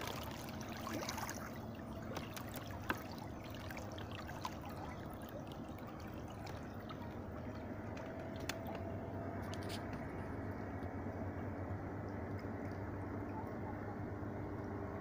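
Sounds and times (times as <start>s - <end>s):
electric motor low hum: 0.0s - 15.0s
water trickling and splashing: 0.0s - 15.0s.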